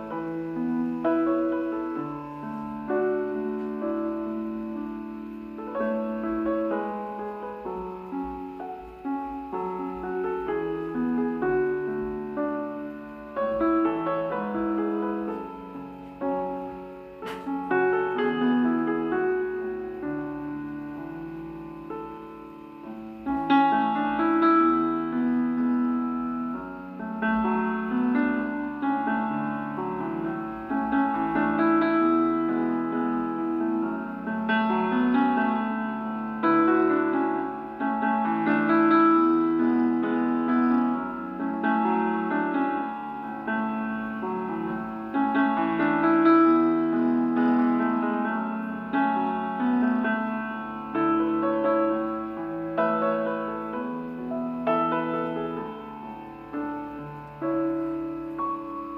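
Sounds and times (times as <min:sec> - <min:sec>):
gentle piano melody: 0:00.0 - 0:58.9.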